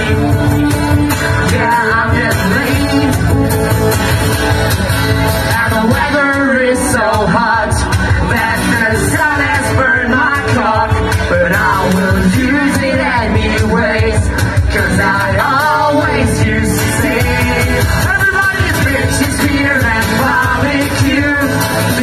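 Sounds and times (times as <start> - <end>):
live rock band: 0.0 - 22.0
man singing: 0.0 - 22.0.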